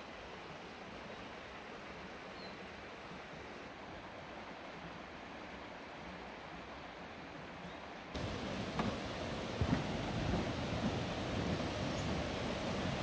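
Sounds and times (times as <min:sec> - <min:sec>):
faint mountain stream rushing: 0:00.0 - 0:13.0.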